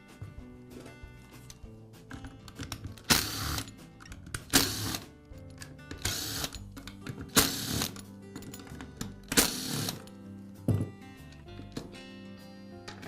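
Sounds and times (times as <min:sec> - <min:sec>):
background music with steady beat: 0:00.0 - 0:13.0.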